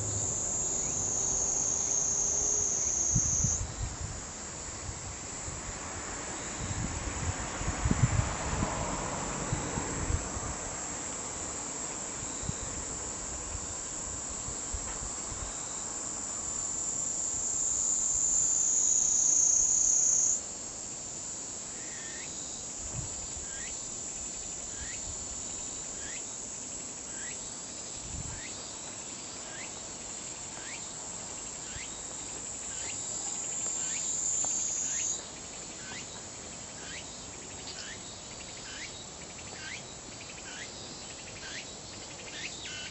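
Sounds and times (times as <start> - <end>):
cicada buzzing: 0.0 - 42.9.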